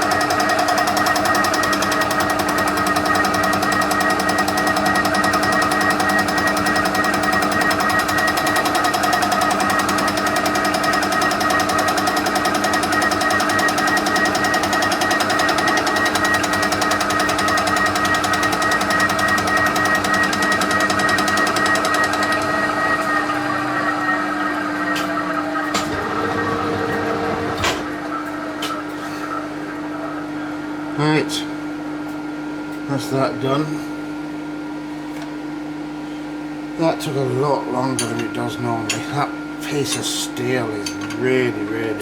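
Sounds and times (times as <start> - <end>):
spindle drive whine: 0.0 - 42.0.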